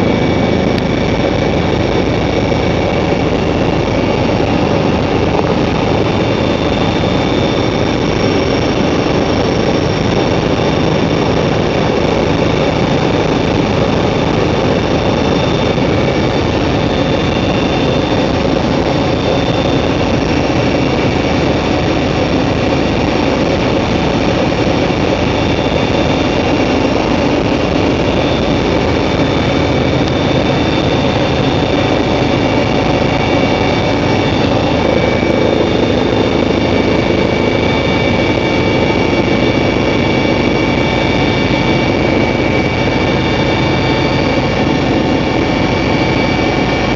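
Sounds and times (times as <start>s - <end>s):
helicopter engine and rotor rumble: 0.0s - 46.9s
helicopter turbine whine: 0.0s - 46.9s.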